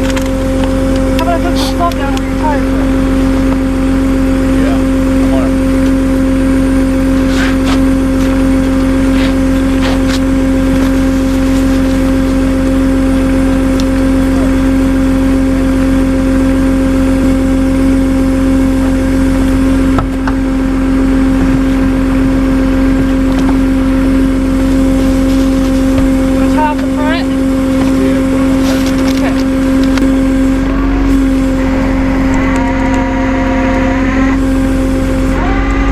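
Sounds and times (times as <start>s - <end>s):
vehicle engine droning: 0.0s - 35.9s.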